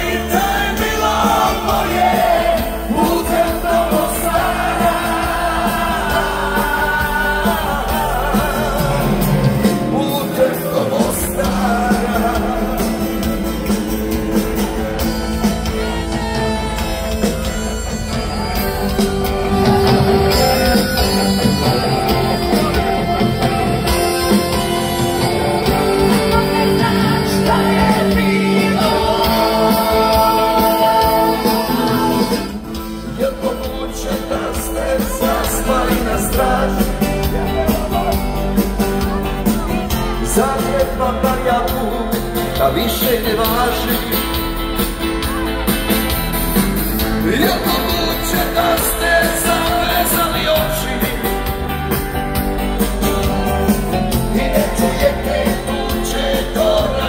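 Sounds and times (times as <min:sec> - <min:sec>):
live rock band with singing: 0:00.0 - 0:57.0.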